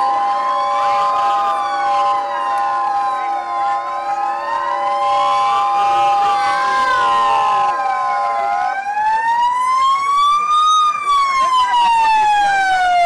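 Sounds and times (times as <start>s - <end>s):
police siren wailing: 0.0s - 13.0s.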